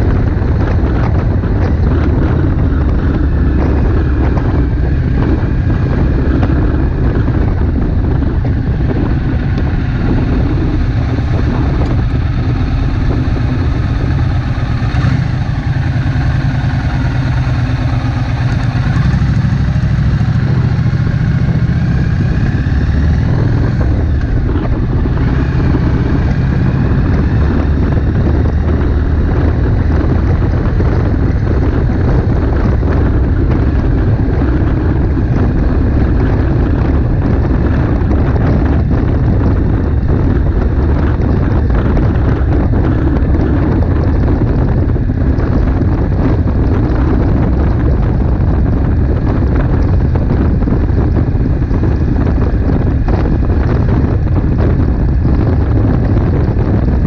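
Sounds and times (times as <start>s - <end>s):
motorcycle engine revving: 0.0s - 57.0s
wind buffeting microphone: 0.0s - 57.0s.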